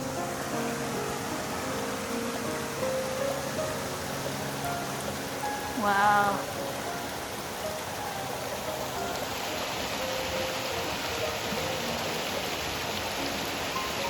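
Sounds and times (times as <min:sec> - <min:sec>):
creek water rushing over rocks: 0:00.0 - 0:14.0
faint background music: 0:00.1 - 0:14.0.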